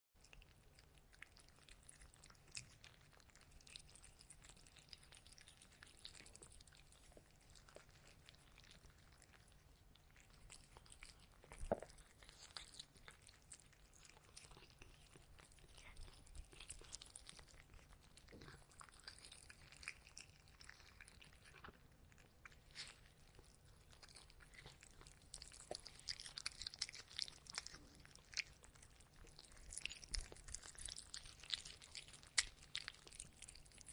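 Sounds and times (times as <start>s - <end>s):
cat crunching dry kibble: 0.2s - 33.9s.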